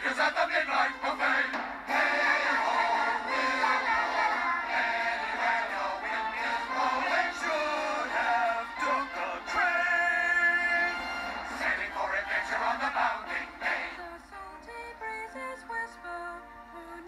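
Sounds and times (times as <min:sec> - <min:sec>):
chorus singing show tune with instruments: 0:00.0 - 0:17.0.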